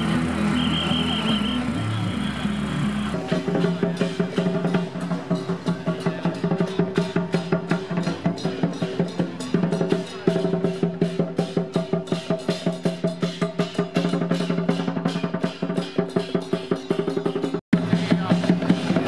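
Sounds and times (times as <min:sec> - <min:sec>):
drum beaten in fast rhythm: 0:00.0 - 0:19.0.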